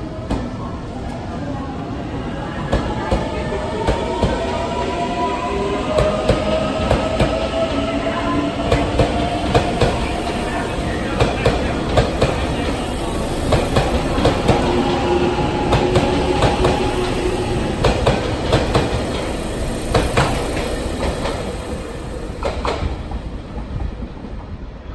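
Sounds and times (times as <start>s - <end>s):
train rumble: 0.0s - 24.9s.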